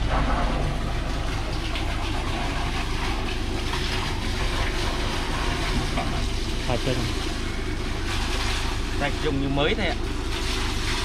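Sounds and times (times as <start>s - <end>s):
truck engine and suction pump: 0.0s - 11.0s.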